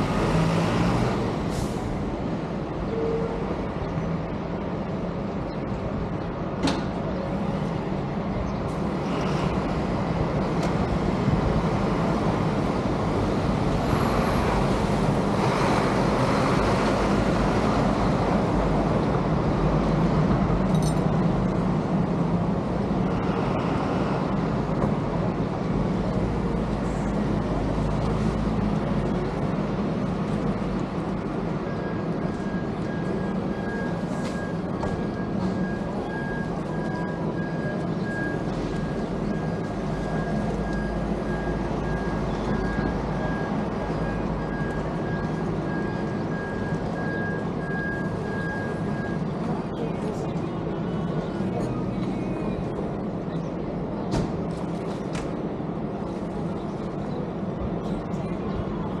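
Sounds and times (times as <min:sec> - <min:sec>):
traffic and road rumble: 0:00.0 - 0:59.0.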